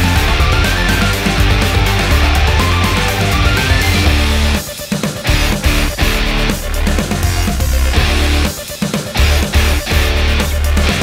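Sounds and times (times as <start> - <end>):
music with guitar and heavy bass: 0.0 - 11.0.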